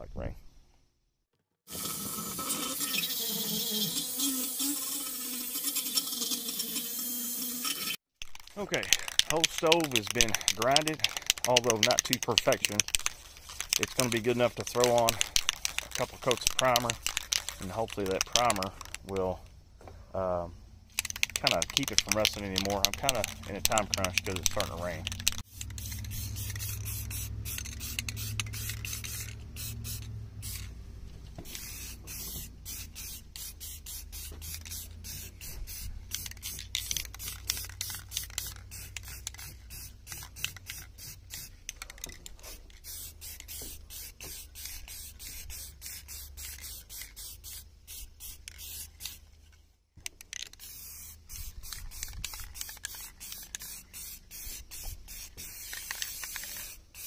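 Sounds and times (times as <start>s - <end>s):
aerosol can spraying: 1.7s - 8.0s, 8.8s - 19.0s, 20.9s - 30.8s, 31.4s - 49.2s, 50.4s - 57.0s.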